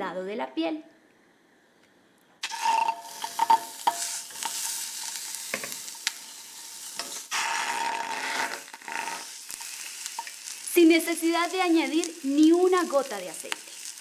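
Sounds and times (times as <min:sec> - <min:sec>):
chicken sizzling in pan: 0:02.4 - 0:14.0.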